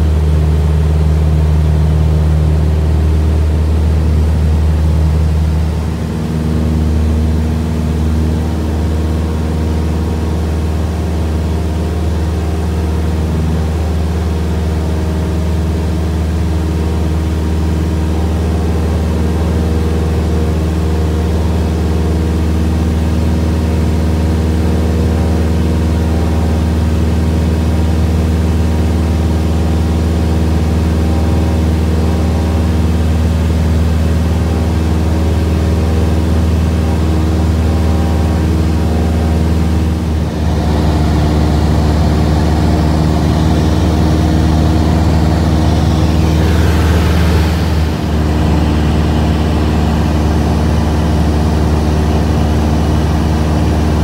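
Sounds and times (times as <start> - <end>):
propeller engine droning: 0.0 - 54.0.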